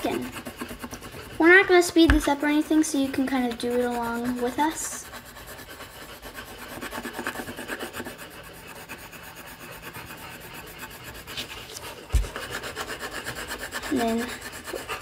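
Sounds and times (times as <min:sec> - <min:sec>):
colored pencil scratching on paper: 0:00.0 - 0:15.0.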